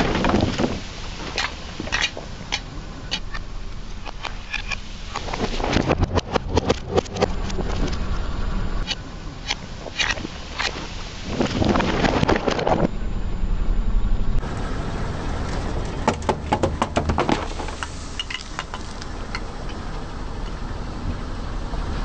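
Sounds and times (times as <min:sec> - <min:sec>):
car running: 0:00.0 - 0:22.0.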